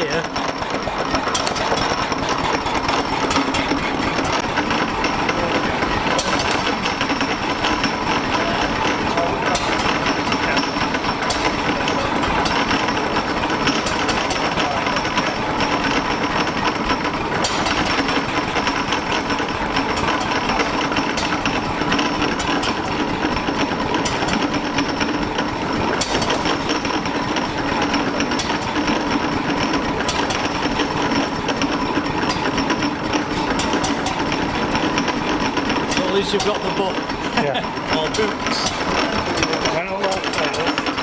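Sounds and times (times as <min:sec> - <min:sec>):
oil engine clattering: 0:00.0 - 0:41.0.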